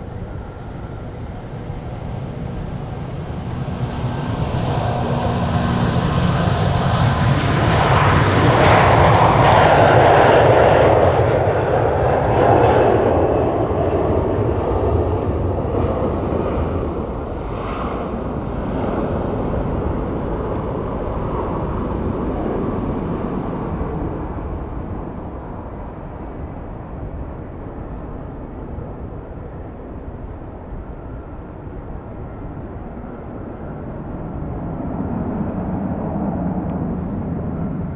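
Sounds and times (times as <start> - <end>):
airliner jet engines roaring: 0.0 - 37.9.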